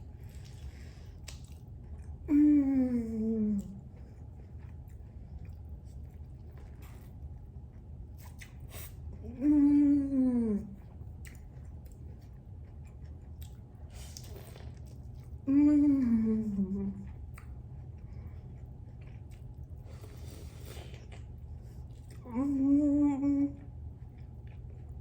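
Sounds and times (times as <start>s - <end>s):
person chewing food: 0.0s - 2.3s, 3.5s - 9.3s, 10.7s - 22.3s, 23.5s - 25.0s.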